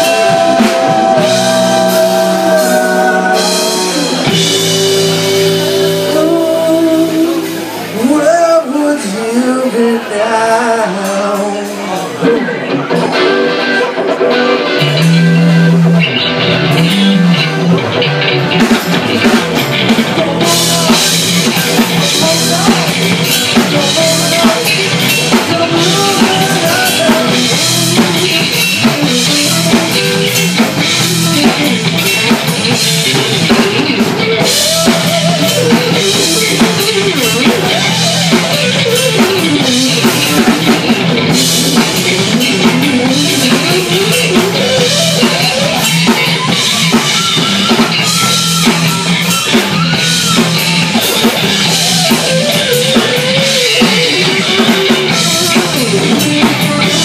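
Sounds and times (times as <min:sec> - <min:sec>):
drum kit beat: 0:00.0 - 0:07.9, 0:11.0 - 0:57.0
electric bass: 0:00.0 - 0:57.0
electric guitar lead line: 0:00.0 - 0:57.0.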